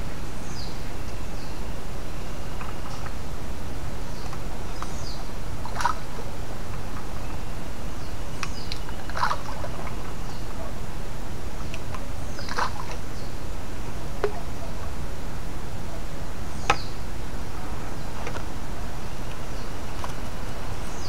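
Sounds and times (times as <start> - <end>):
low wind rumble: 0.0 - 21.0.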